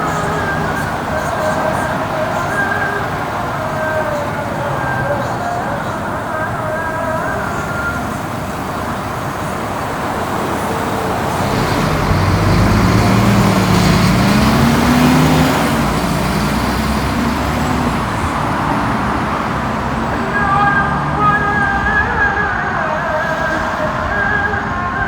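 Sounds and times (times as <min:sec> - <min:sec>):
heavy vehicle engine accelerating: 0:00.0 - 0:25.0
road traffic noise: 0:00.0 - 0:25.0.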